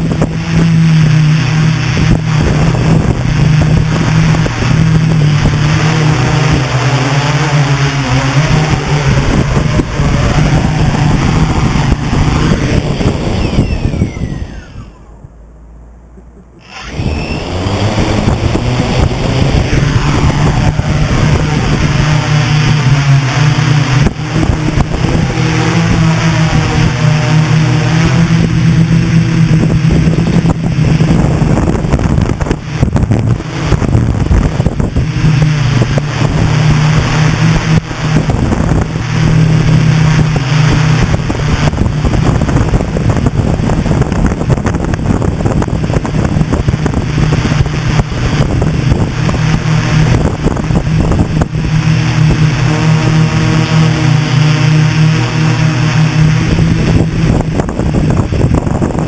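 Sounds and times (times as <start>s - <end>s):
wind buffeting microphone: 0.0s - 15.6s, 16.4s - 59.0s
drone motors buzzing: 0.0s - 59.0s.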